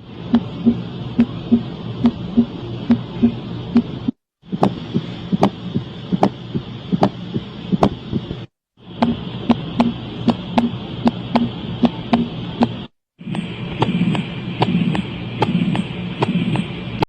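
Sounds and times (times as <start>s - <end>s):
heartbeat thumps and clicks: 0.3s - 16.8s.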